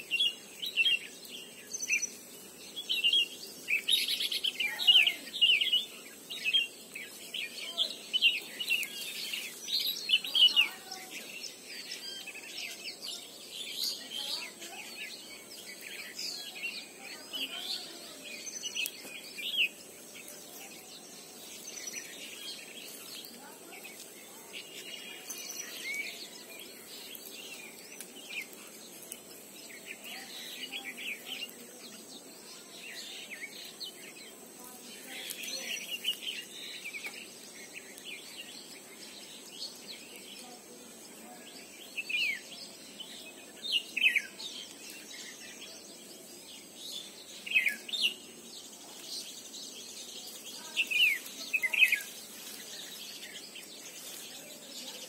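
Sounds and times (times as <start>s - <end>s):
wild birds chirping: 0.0s - 55.0s.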